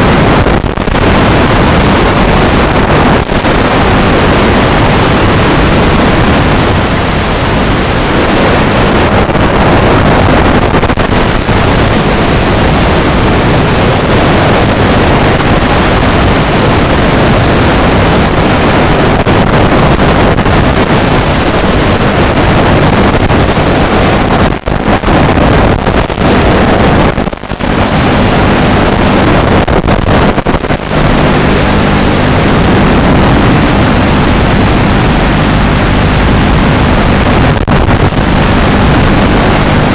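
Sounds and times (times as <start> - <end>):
loud steady rushing noise: 0.0 - 39.9.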